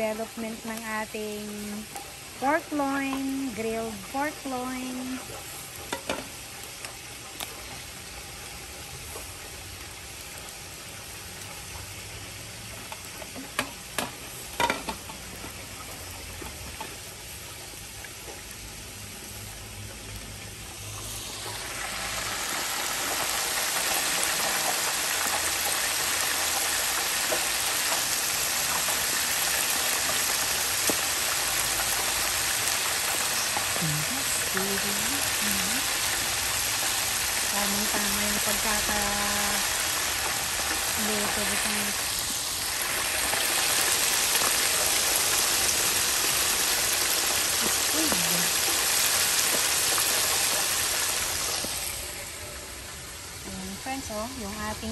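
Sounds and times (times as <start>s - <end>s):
food frying in deep fryer: 0.0s - 54.9s
meat sizzling over charcoal: 0.0s - 54.9s.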